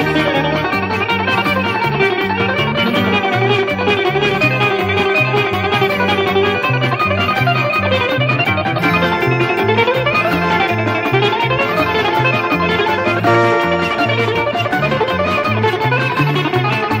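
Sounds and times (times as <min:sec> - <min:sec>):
bouzouki playing quick runs: 0:00.0 - 0:17.0
rhythmic bass accompaniment: 0:00.0 - 0:17.0.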